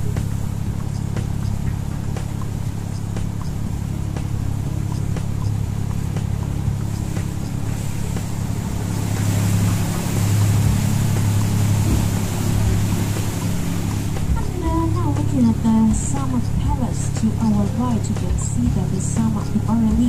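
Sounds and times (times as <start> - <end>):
boat engine droning: 0.0 - 20.0
rush of wind and water: 0.0 - 20.0.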